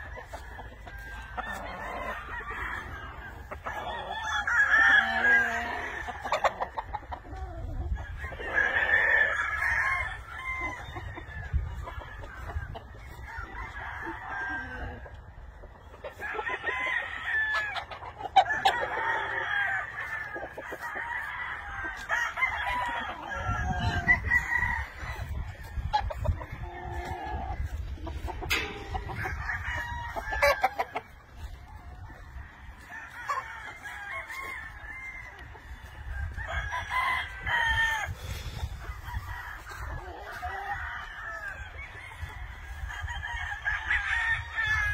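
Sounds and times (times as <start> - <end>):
chickens clucking: 0.0 - 44.9
roosters crowing: 0.0 - 44.9.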